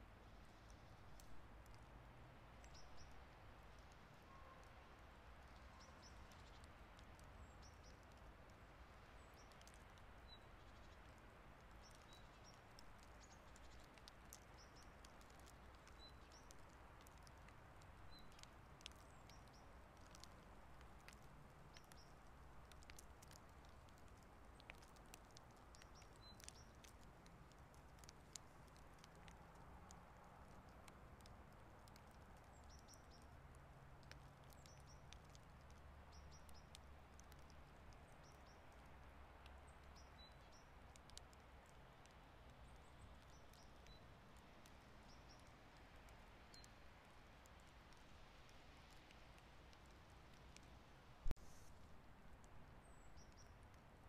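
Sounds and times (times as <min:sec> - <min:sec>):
soft steady hiss: 0:00.0 - 0:54.0
snow ticking: 0:02.5 - 0:54.0.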